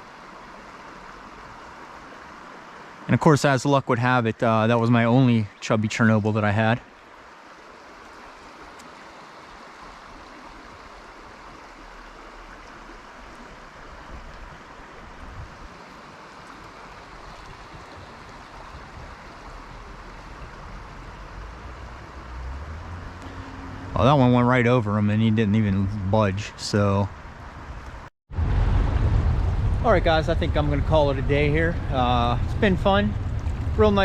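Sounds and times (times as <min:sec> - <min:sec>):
stream water rushing: 0:00.0 - 0:28.1.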